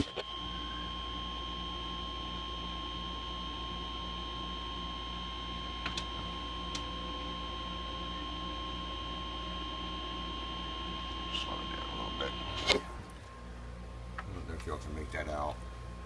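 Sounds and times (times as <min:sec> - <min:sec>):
steady high-pitched test tone: 0:00.0 - 0:13.6
low electrical hum: 0:00.0 - 0:16.0.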